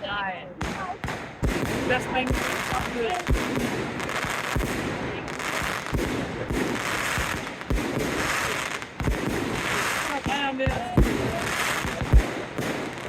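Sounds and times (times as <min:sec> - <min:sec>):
fireworks booming: 0:00.0 - 0:13.0
crackling hiss: 0:00.6 - 0:13.0.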